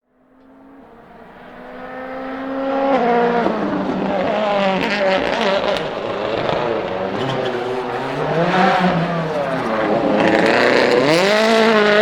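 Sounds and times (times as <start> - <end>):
rally car engine revving: 0.4 - 12.0
exhaust pops and crackles: 1.3 - 12.0.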